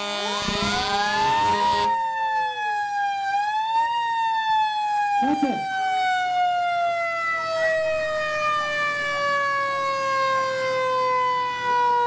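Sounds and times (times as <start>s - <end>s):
fire engine siren winding down: 0.0s - 12.0s.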